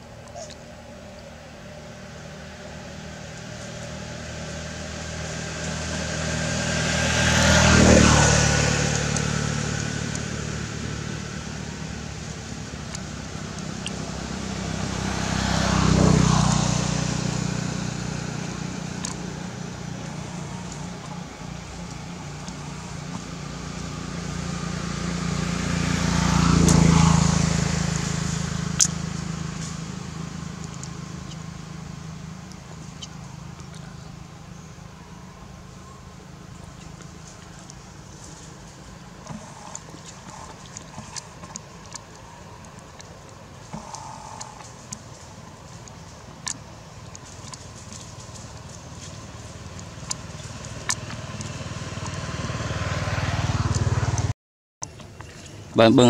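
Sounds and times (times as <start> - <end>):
motor vehicles passing by: 0.0 - 56.0.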